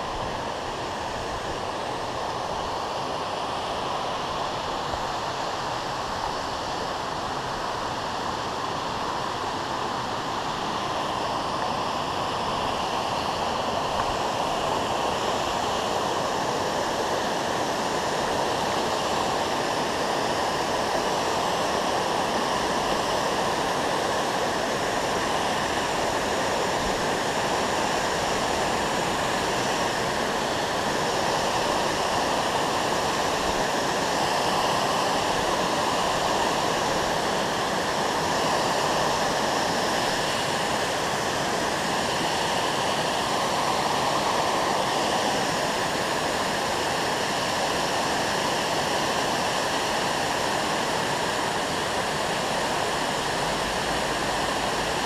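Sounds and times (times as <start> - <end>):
water rushing over dam spillway: 0.0 - 55.0.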